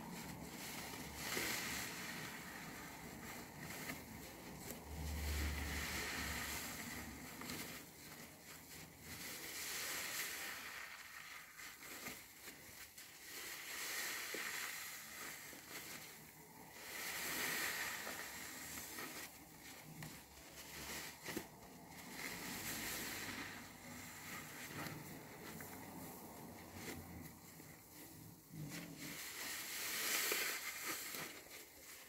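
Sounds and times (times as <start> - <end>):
sponge squishing in soap lather: 0.0 - 32.0.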